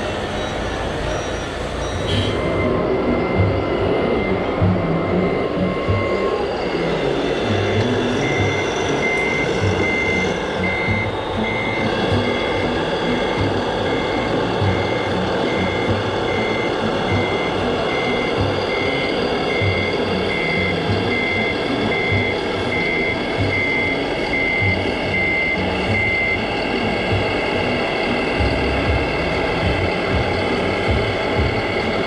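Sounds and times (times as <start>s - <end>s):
busy outdoor background: 0.0s - 32.0s
model engine running: 0.0s - 32.0s
reversing beeper: 0.0s - 32.0s.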